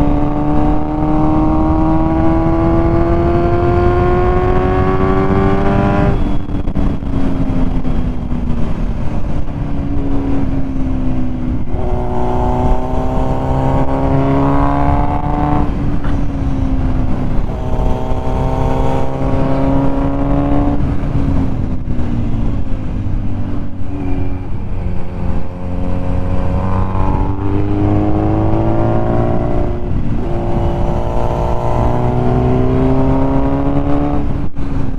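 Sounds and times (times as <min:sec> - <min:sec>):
motorcycle engine revving: 0:00.0 - 0:34.9
wind noise: 0:00.0 - 0:34.9.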